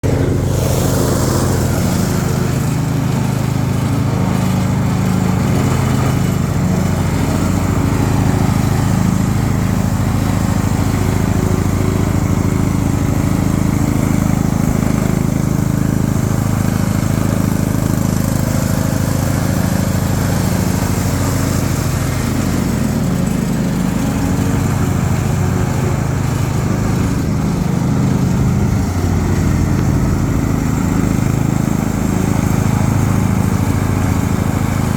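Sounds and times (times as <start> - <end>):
riding lawnmower engine droning: 0.0 - 34.9.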